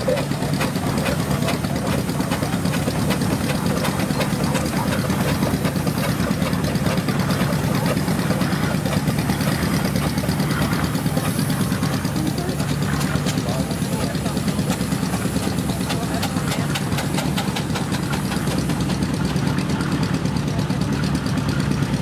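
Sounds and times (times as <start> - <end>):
steam tractor running: 0.0 - 22.0.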